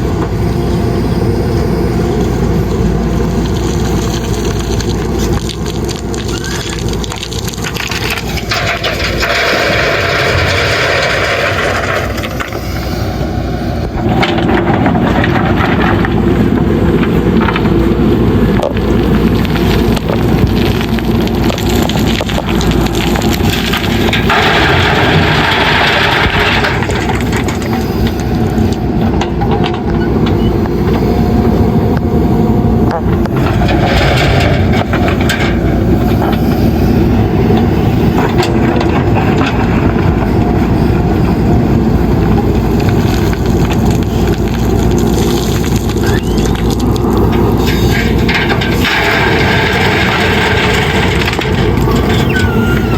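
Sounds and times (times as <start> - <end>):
diesel engine running under load: 0.0 - 52.9
gravel scraping and pouring: 0.0 - 52.9.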